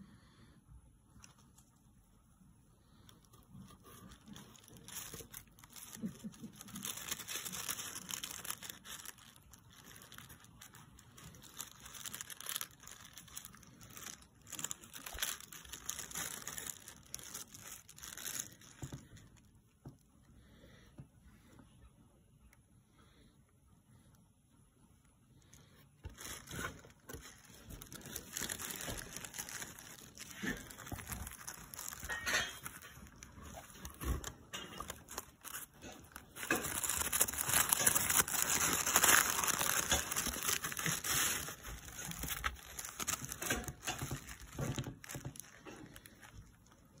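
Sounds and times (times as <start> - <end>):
tissue paper crinkling: 1.2 - 19.5, 25.5 - 47.0.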